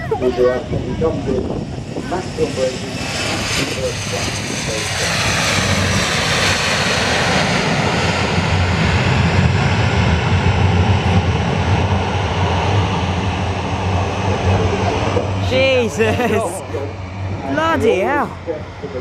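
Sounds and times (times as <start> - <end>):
deep propeller hum: 0.0 - 15.8, 16.6 - 17.6
turboprop engines running loud: 0.0 - 19.0.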